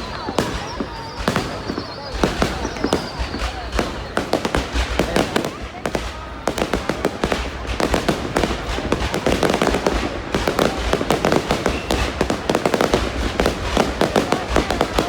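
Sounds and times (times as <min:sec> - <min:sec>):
firework bangs and crackles: 0:00.0 - 0:15.0
low firework booms: 0:00.0 - 0:15.0.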